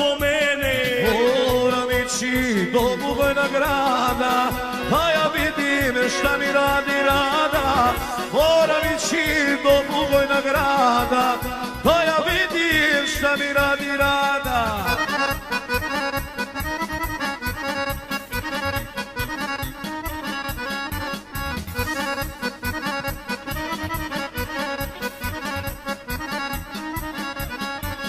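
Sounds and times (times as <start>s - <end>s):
accordion melody: 0.0s - 28.0s
steady beat: 0.1s - 28.0s.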